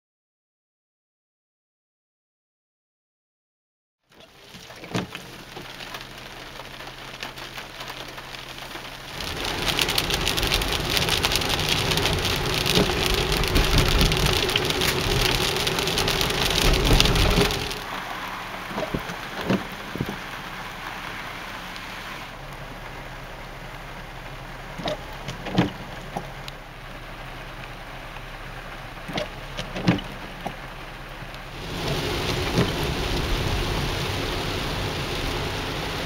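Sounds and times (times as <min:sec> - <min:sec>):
heavy rain on car roof: 0:04.1 - 0:36.0.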